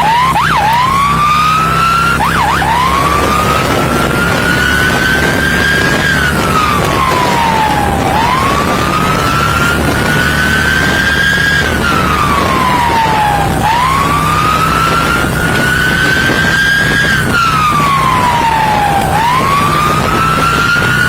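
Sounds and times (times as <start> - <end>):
engine and road noise: 0.0 - 21.0
police siren wailing: 0.0 - 21.0.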